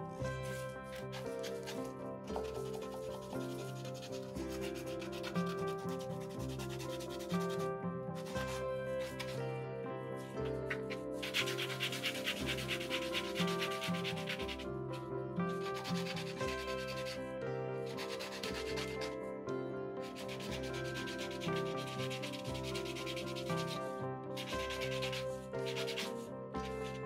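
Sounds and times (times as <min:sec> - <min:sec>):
sandpaper scratching resin: 0:00.4 - 0:09.4, 0:10.6 - 0:14.6, 0:15.5 - 0:17.2, 0:17.9 - 0:19.2, 0:20.0 - 0:27.0.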